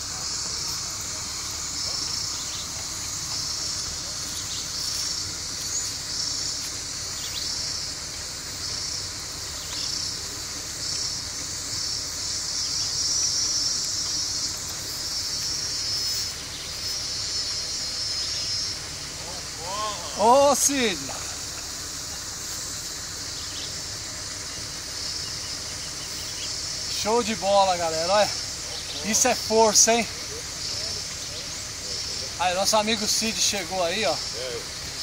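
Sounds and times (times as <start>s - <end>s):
insects buzzing chorus: 0.0s - 35.0s
pulsed insect call: 0.0s - 35.0s.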